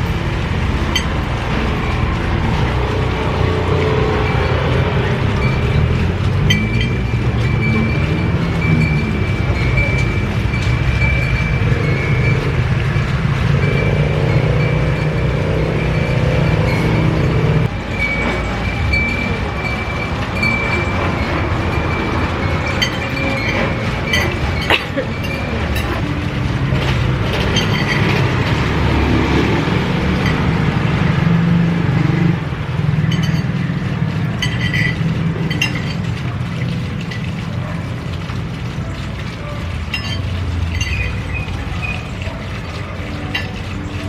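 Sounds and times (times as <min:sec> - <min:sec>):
clinks: 0:00.0 - 0:31.0, 0:32.8 - 0:44.0
faint voices: 0:00.0 - 0:44.0
traffic noise: 0:00.0 - 0:44.0.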